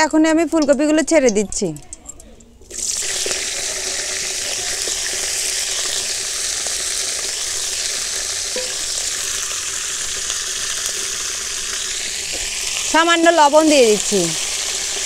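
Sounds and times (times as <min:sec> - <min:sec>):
vegetables sizzling in oil: 0:02.7 - 0:15.0.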